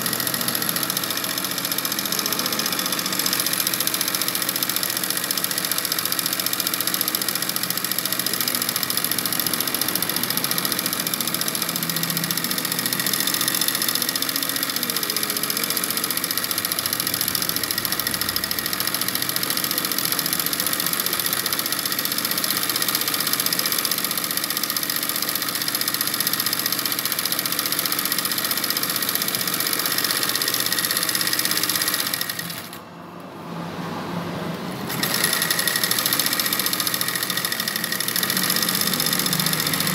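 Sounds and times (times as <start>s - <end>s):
sewing machine running: 0.0s - 33.2s, 34.5s - 39.9s.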